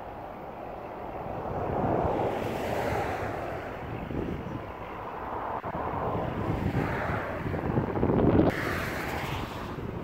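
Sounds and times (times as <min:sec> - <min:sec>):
wind buffeting microphone: 0:00.9 - 0:10.0.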